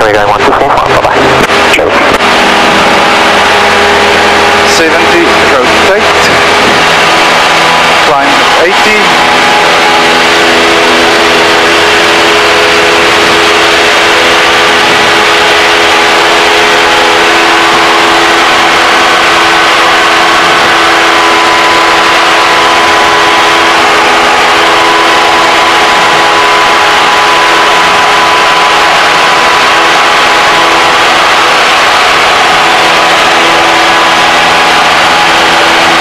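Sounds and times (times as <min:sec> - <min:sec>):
airplane engine drone: 0:00.0 - 0:36.0.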